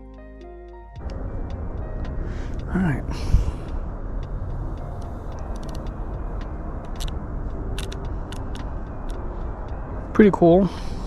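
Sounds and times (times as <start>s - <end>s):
low outdoor rumble: 1.0s - 11.0s.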